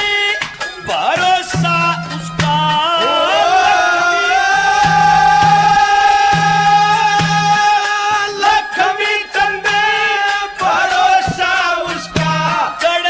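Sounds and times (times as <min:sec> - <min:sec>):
folk melody: 0:00.0 - 0:13.0
drum strokes: 0:00.4 - 0:13.0.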